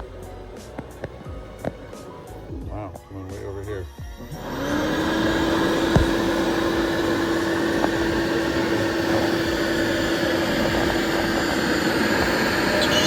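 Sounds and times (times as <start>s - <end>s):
router spindle humming: 0.0s - 3.0s, 4.2s - 13.0s.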